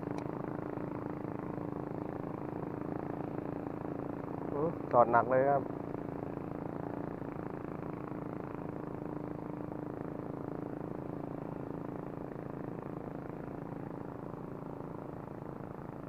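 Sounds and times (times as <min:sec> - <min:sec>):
small motor droning: 0:00.0 - 0:16.0.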